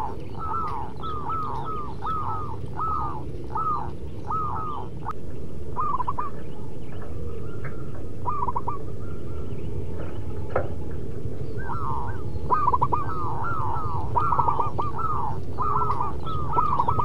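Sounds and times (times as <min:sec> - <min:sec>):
doves cooing: 0:00.0 - 0:17.0
steady low rumble: 0:00.0 - 0:17.0.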